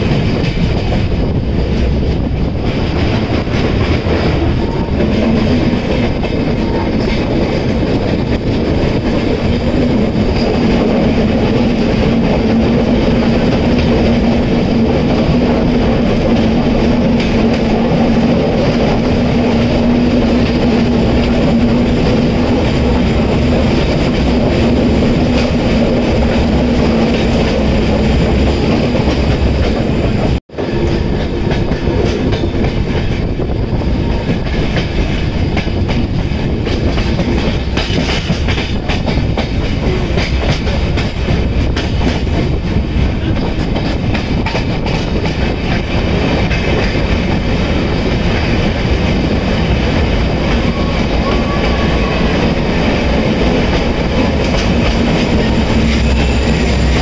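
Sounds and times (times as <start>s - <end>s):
train wheel and track noise: 0.0s - 57.0s
wheels clacking over rail joints: 0.0s - 57.0s.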